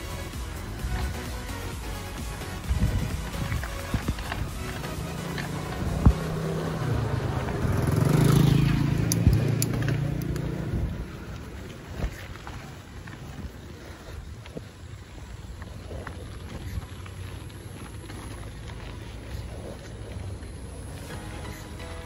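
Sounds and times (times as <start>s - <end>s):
bike tyres on rough lane: 0.0s - 22.0s
car engine hum: 0.0s - 22.0s.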